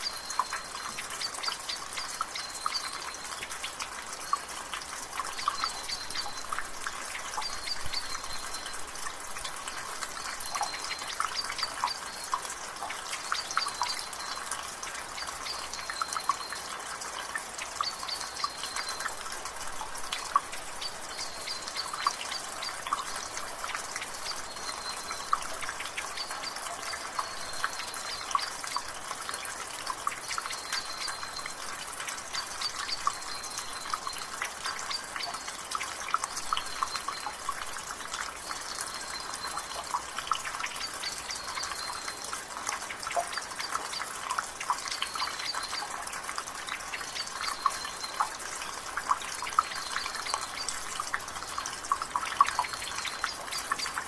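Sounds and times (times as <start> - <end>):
rainfall hiss: 0.0 - 54.0
water dripping from gutter: 0.0 - 54.0.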